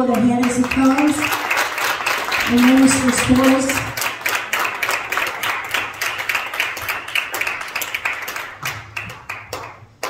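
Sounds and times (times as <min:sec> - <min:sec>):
congregation applauding: 0:00.0 - 0:10.0.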